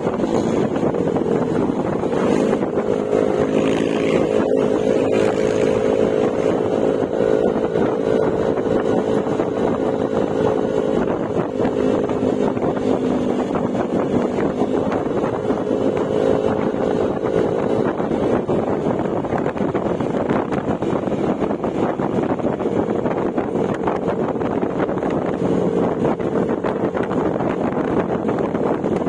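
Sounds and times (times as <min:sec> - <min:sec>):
scooter engine cruising: 0:00.0 - 0:29.0
wind noise on microphone: 0:00.0 - 0:29.0.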